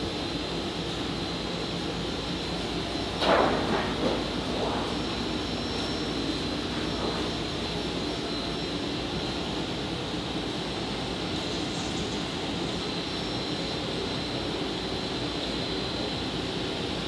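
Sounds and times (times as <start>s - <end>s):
faint high whine: 0.0s - 16.7s
machine hum and hiss: 0.0s - 17.0s.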